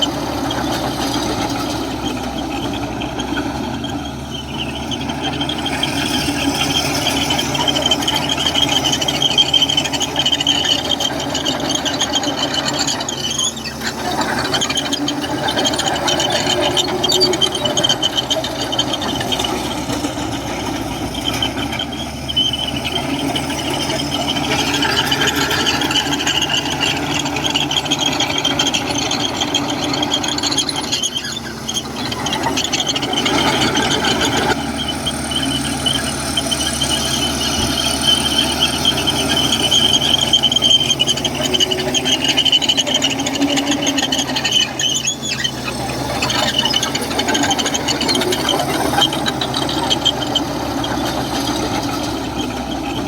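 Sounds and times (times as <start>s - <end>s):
bulldozer diesel engine under load: 0.0s - 53.0s
high-pitched machine squeal: 0.0s - 53.0s.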